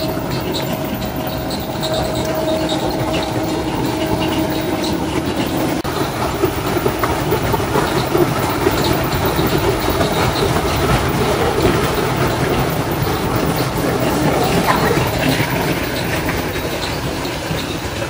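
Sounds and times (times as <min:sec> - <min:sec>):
water rushing in a channel: 0:00.0 - 0:18.0.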